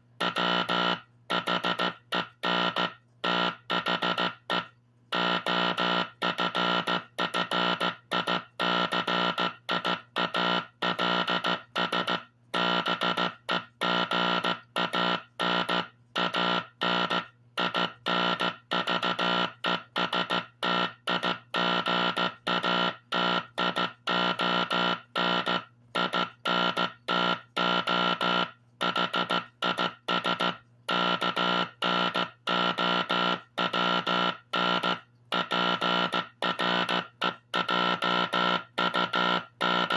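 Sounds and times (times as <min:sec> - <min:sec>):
buzzy morse code tone: 0:00.2 - 0:39.9.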